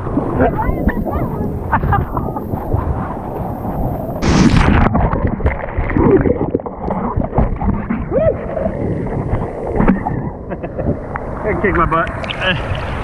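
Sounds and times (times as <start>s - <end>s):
surf breaking on beach: 0.0s - 13.0s
wind rumbling on microphone: 0.0s - 13.0s.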